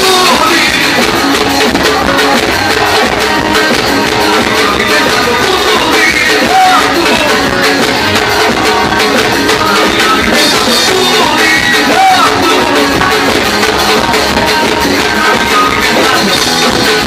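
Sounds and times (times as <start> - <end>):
live band playing upbeat music: 0.0 - 17.0
person singing: 0.0 - 17.0.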